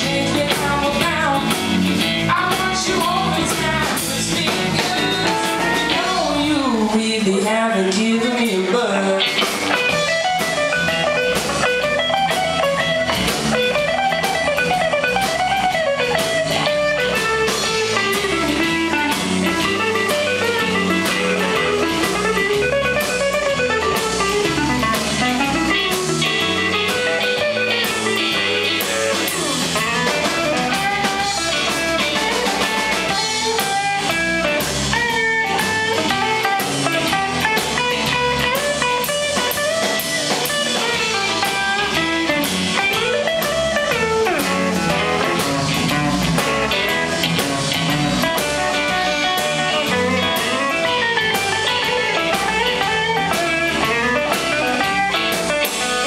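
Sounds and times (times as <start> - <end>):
bass: 0.0 - 56.0
drums: 0.0 - 56.0
electric guitar solo: 0.0 - 56.0.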